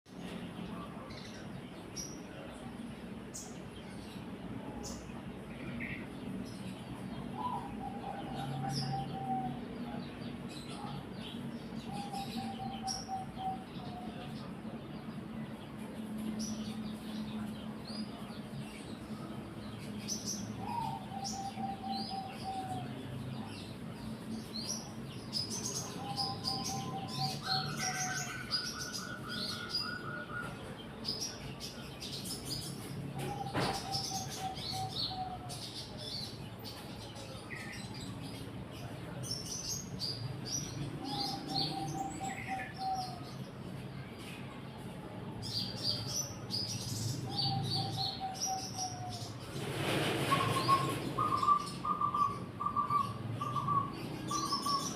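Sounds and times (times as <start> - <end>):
birds chirping: 0.1 - 54.9.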